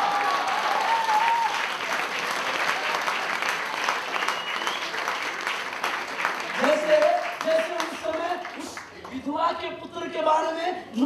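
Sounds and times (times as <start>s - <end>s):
crowd clapping and applauding: 0.0s - 9.3s.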